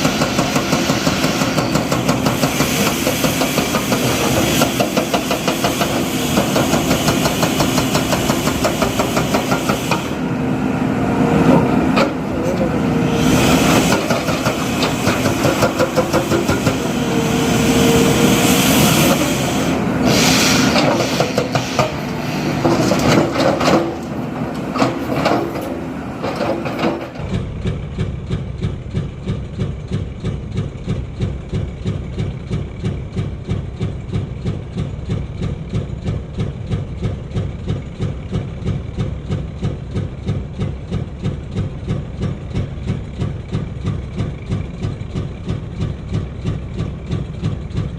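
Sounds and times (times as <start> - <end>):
machinery clanks: 0.0 - 10.3, 11.4 - 47.9
diesel engine pulsing: 0.0 - 47.9
diesel machinery drone: 0.0 - 47.9.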